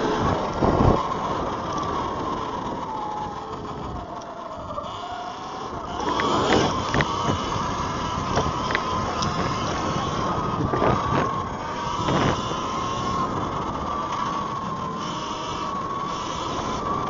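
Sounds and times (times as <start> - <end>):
electric motor whine: 0.0 - 17.0
wind noise: 0.0 - 17.0.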